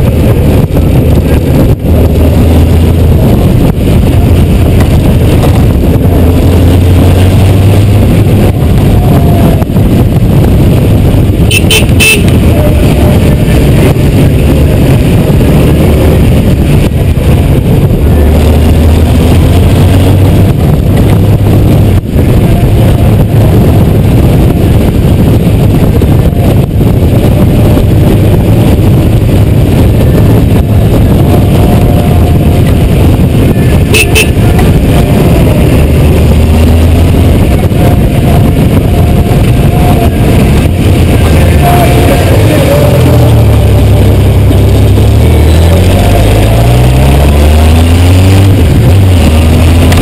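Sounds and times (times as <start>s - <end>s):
loud wind noise: 0.0s - 50.0s
motorcycle engine running: 0.0s - 50.0s
road rush: 0.0s - 50.0s.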